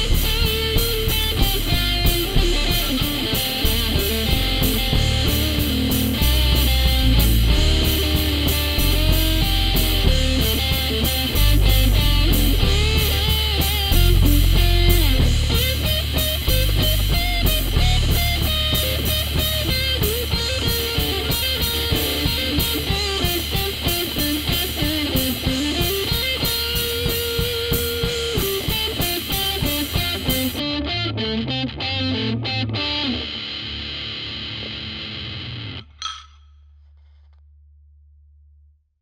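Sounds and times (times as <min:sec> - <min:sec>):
drums: 0:00.0 - 0:30.8, 0:32.6 - 0:36.5
distorted electric guitars: 0:00.0 - 0:36.4.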